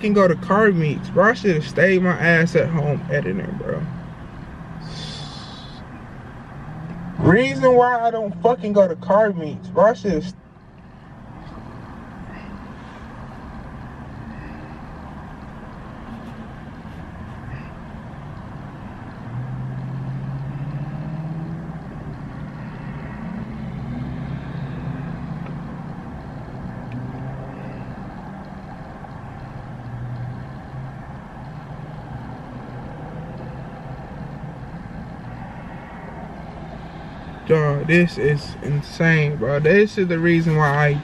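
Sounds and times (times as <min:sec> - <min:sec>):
car engine hum: 0:00.0 - 0:41.0.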